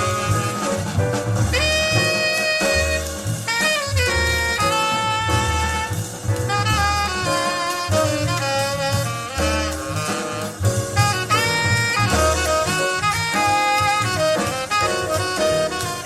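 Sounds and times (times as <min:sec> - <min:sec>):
saxophone melody: 0:00.0 - 0:16.0
walking bass: 0:00.0 - 0:16.0.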